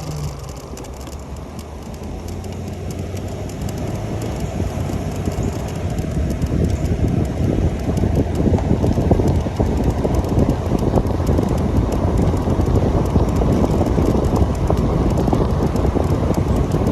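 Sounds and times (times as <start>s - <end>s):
electric motorbike riding rumble: 0.0s - 16.9s
wind buffeting microphone: 0.0s - 16.9s.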